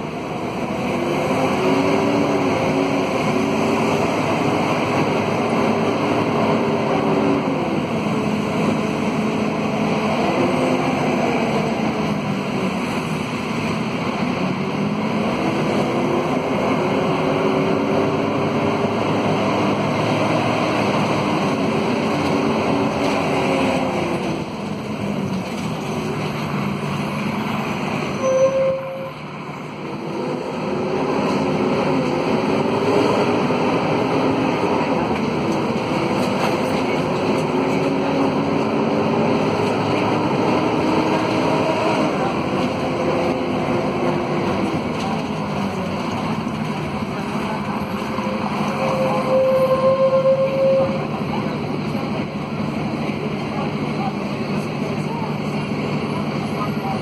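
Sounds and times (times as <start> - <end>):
bus diesel engine shifting gears: 0.0 - 28.2, 29.2 - 57.0.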